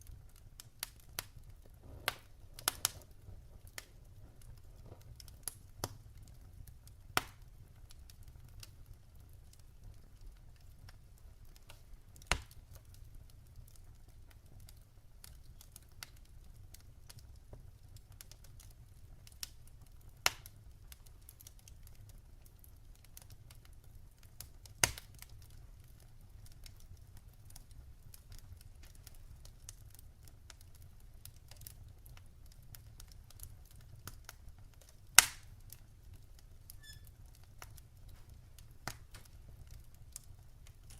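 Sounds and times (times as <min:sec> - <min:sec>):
sharp pops of fire: 0:00.0 - 0:22.2, 0:23.0 - 0:40.9
log fire crackling: 0:00.0 - 0:40.9.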